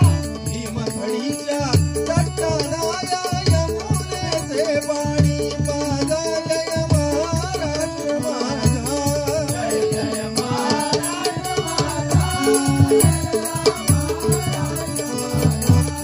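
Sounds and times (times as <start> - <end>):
harmonium melody: 0.0 - 16.0.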